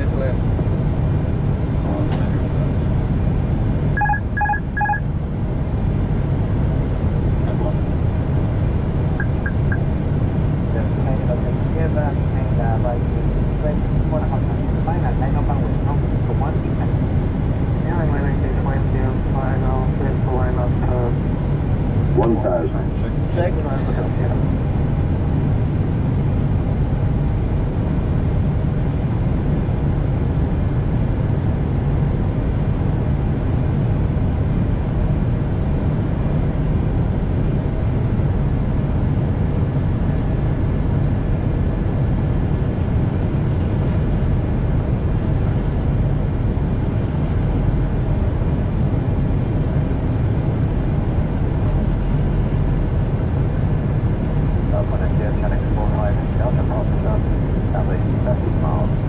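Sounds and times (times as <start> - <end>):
faint steady whine: 0.0 - 59.0
low rumble of airflow and engines: 0.0 - 59.0.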